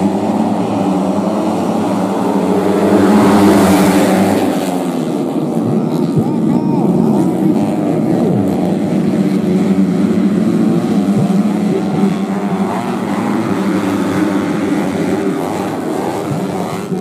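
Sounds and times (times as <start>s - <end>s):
racing motorcycles revving: 0.0s - 17.0s.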